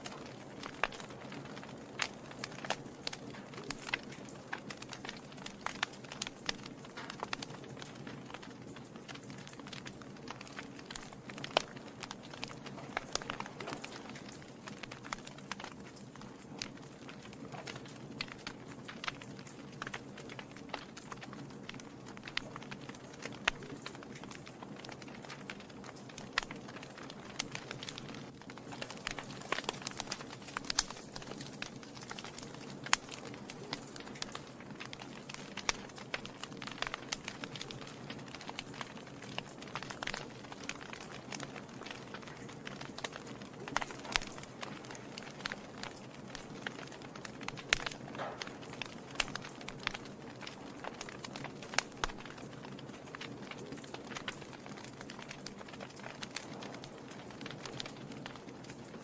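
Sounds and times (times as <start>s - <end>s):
log fire crackling: 0.0s - 59.0s.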